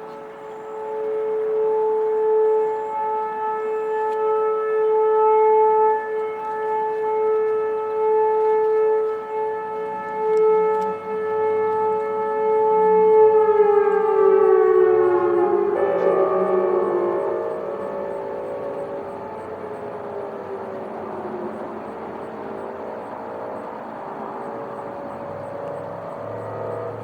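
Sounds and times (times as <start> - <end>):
tornado warning siren: 0.0 - 27.0.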